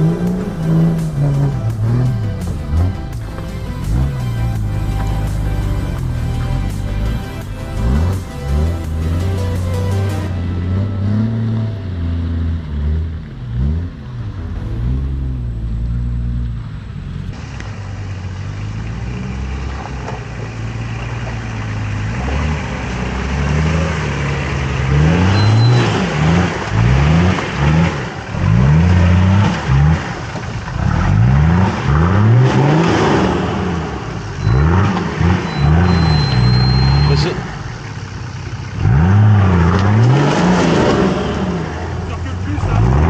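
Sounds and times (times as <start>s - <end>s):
engine revving: 0.0s - 43.0s.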